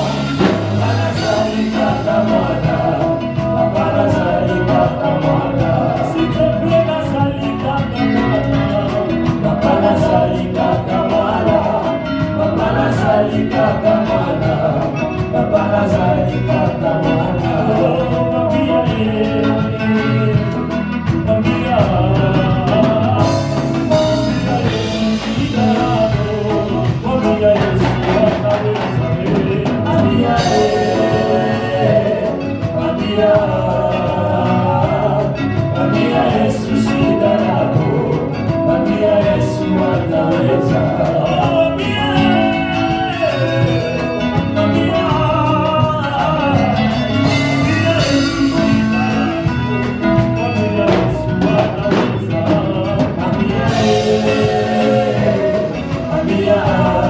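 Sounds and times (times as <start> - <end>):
driving beat: 0.0 - 57.0
gospel band playing: 0.0 - 57.0
voices singing: 0.0 - 57.0.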